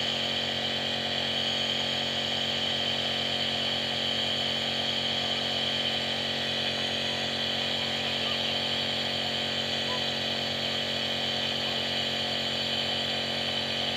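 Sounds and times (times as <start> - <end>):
nebulizer motor hum: 0.0 - 13.9.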